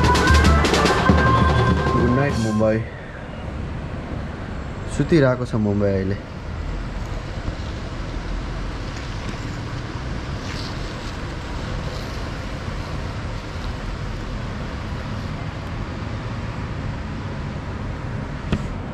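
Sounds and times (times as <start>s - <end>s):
city traffic rumble: 0.0s - 18.9s.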